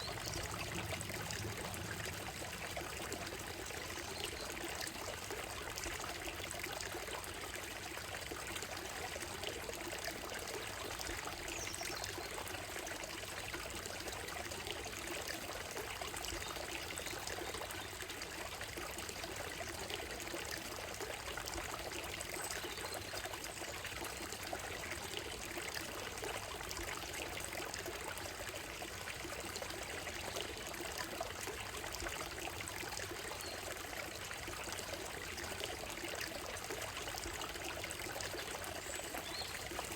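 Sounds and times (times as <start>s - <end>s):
stream over gravel and stones: 0.0s - 39.9s.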